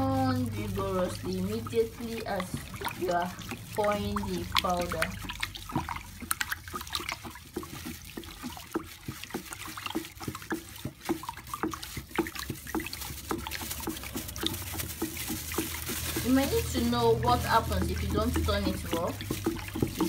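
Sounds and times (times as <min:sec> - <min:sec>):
water splashing in bucket: 0:00.0 - 0:20.0.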